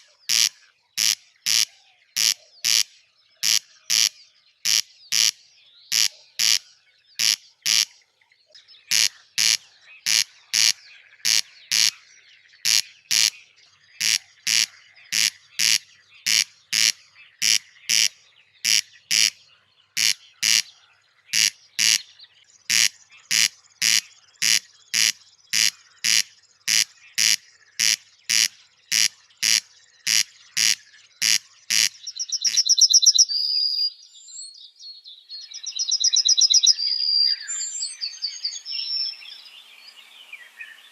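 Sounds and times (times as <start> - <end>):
high fast bird trill: 0.0 - 6.6, 8.8 - 12.0, 12.6 - 34.0, 35.5 - 38.4
bird short sharp calls: 0.0 - 8.0, 8.8 - 34.0.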